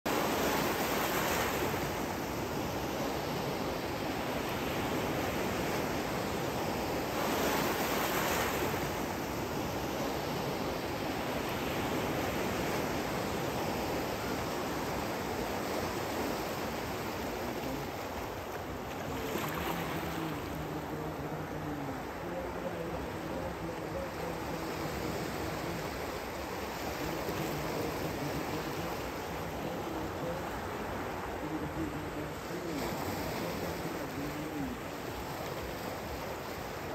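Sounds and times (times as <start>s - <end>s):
waves breaking in shallows: 0.1s - 36.9s.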